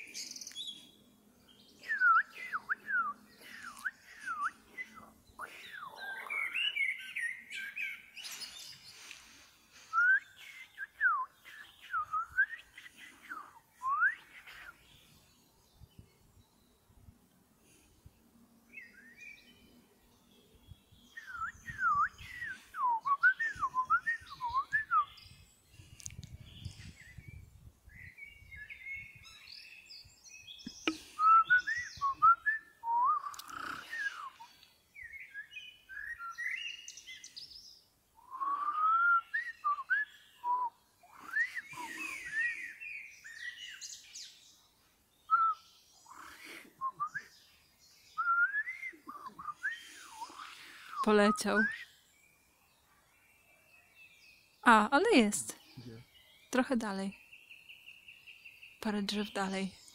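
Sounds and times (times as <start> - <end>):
blackbird singing: 0.0 - 9.1, 9.9 - 16.8, 18.7 - 25.6, 26.4 - 59.9.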